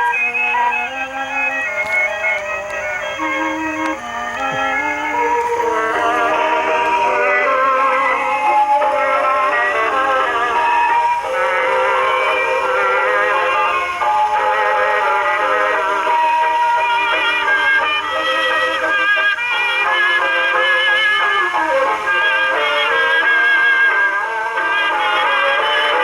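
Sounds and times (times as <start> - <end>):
music from phonograph record: 0.0 - 26.0.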